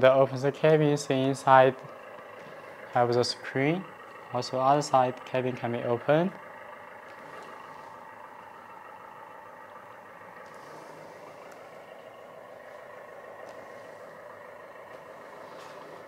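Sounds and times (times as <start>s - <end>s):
simulated diesel engine idle: 0.0s - 16.0s.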